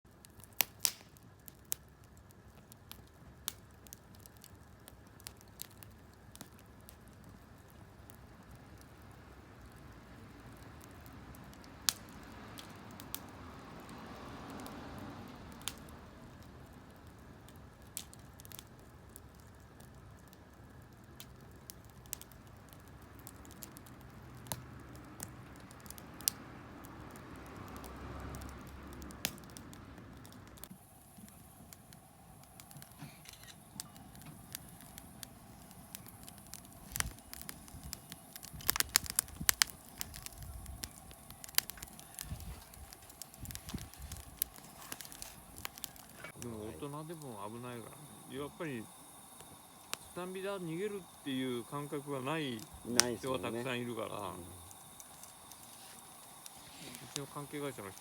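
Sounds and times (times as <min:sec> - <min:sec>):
campfire crackling: 0:00.1 - 0:58.0.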